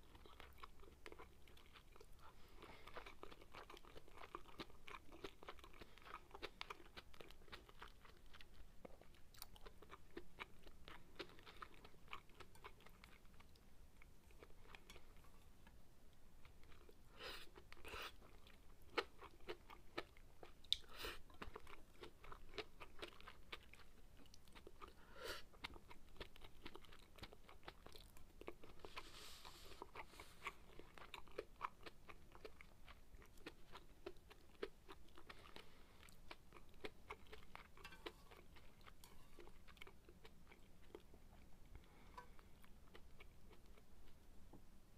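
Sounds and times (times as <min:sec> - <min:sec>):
person chewing: 0:00.0 - 0:15.8, 0:16.4 - 0:44.2.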